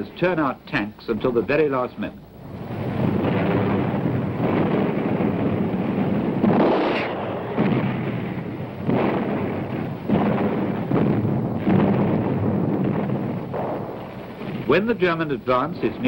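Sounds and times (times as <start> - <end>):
blasts: 2.4 - 16.0
heavy rumble: 2.4 - 16.0.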